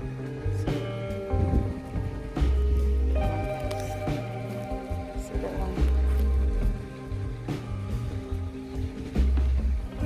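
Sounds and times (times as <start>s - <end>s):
deep bass note: 0.0s - 10.0s
held music chords: 0.0s - 10.0s.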